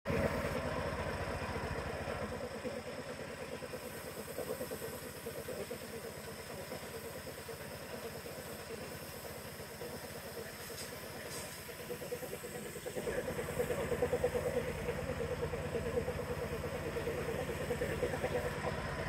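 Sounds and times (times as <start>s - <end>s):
motor running with fast pulse: 0.1s - 19.0s.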